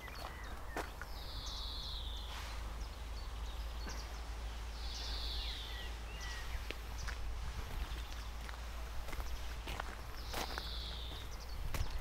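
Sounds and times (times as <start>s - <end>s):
bird chirps: 0.0s - 7.2s, 9.2s - 12.0s
songbird singing: 0.0s - 12.0s.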